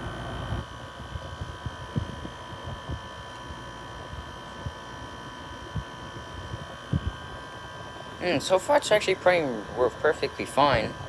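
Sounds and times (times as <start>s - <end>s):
air conditioner humming and whining: 0.0s - 11.0s.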